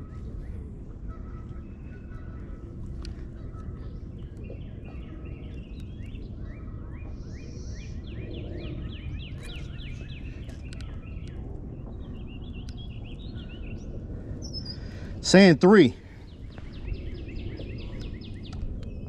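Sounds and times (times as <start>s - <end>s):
low outdoor background noise: 0.0s - 19.0s
songbird singing: 0.0s - 19.0s.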